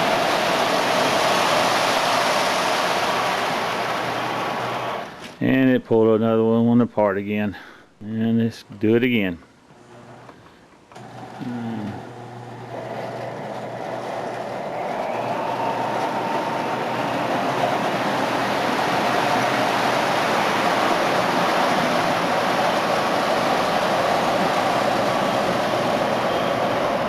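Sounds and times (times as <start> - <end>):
model train motors and wheels: 0.0 - 5.4, 10.7 - 27.0.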